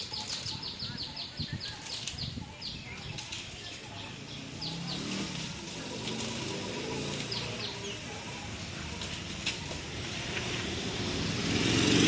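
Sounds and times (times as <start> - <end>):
small birds chirping: 0.0 - 12.0
steady outdoor hiss: 0.0 - 12.0.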